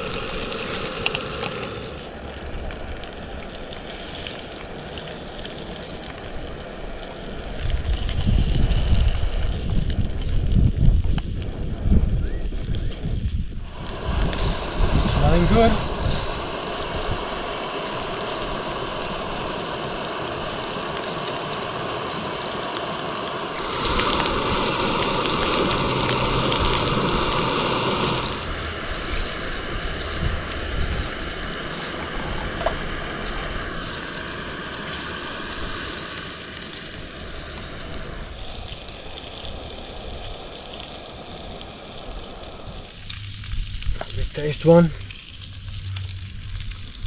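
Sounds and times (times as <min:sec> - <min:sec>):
sausages sizzling in a frying pan: 0:00.0 - 0:47.0.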